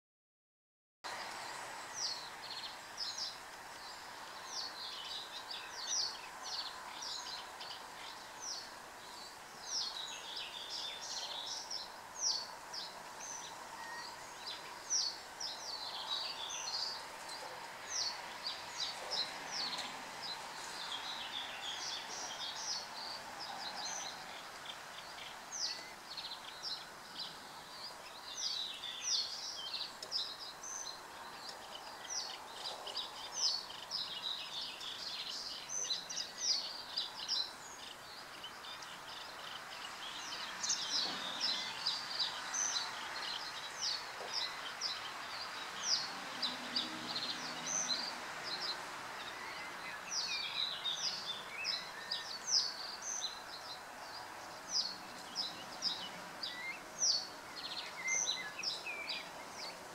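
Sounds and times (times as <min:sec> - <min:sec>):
birds calling high-pitched notes: 0:01.2 - 0:59.9.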